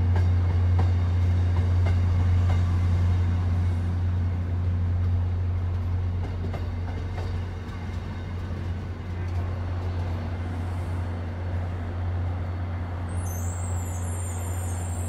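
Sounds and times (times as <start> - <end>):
train coaches rolling past: 0.0 - 15.0.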